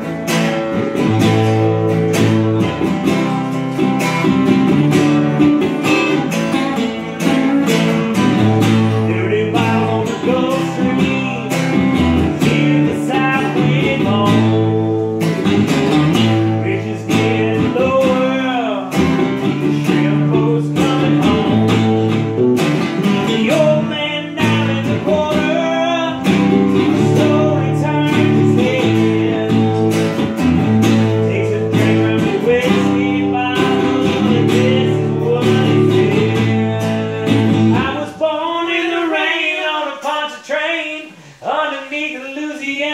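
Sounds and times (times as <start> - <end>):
acoustic guitars playing: 0.0 - 42.2.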